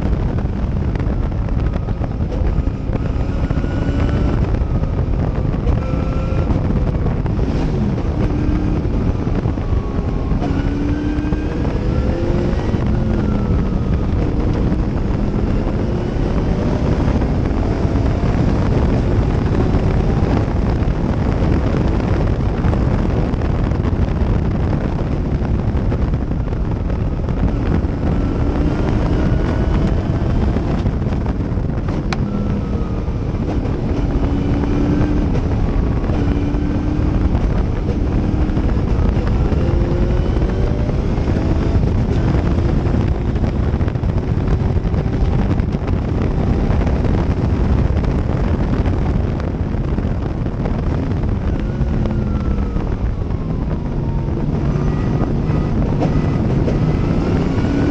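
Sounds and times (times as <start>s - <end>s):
race car engine revving: 0.0s - 57.9s
wind buffeting microphone: 0.0s - 57.9s.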